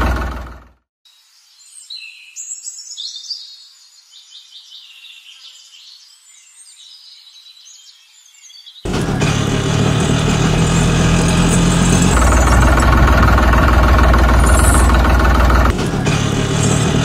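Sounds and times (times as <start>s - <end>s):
birds chirping and twittering: 1.1s - 17.0s.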